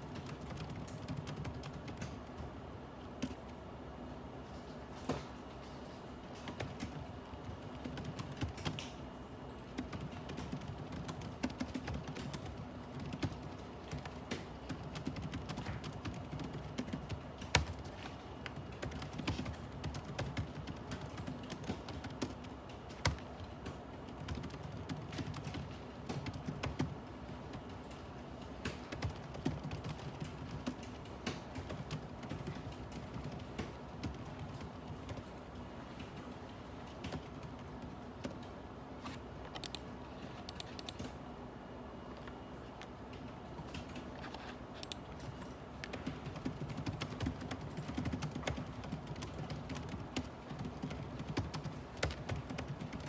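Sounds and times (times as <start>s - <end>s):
typing on a keyboard: 0.0s - 3.6s, 5.0s - 41.2s, 43.1s - 53.0s.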